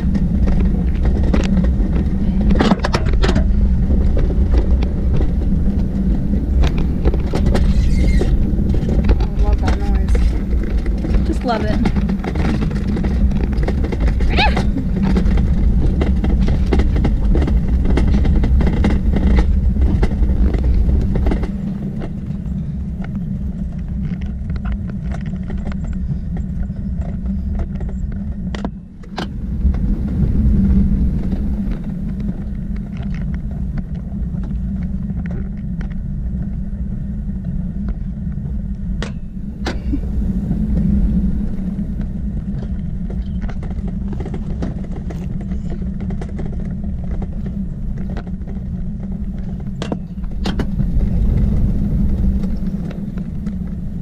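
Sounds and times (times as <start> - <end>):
sled rumbling down metal track: 0.0 - 54.0.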